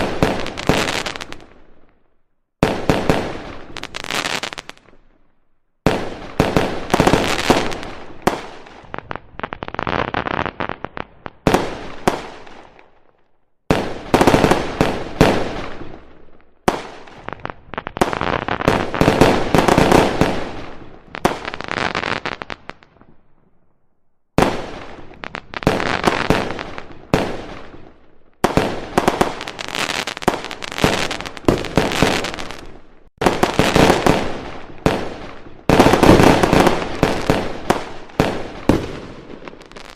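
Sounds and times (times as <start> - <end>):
fireworks crackling: 0.0 - 1.6, 2.6 - 5.0, 5.8 - 12.8, 16.7 - 22.9, 24.4 - 39.9
fireworks bursts and bangs: 0.0 - 1.8, 2.6 - 5.0, 5.8 - 13.0, 13.7 - 23.2, 24.4 - 39.9.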